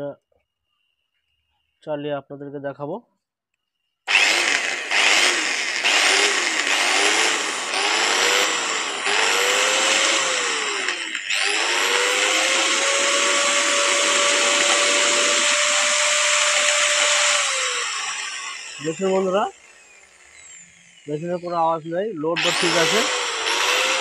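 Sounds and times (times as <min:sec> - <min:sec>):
angle grinder motor whine: 0:04.1 - 0:24.0.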